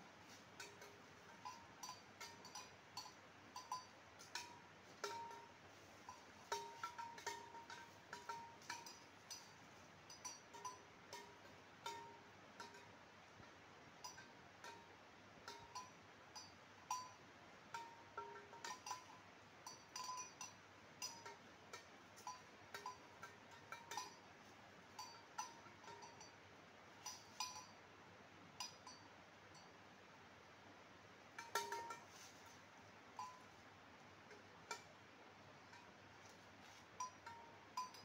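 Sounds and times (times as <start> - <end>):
cowbell clinking: 0.0 - 30.2, 31.0 - 38.0
steady hiss: 0.0 - 38.0.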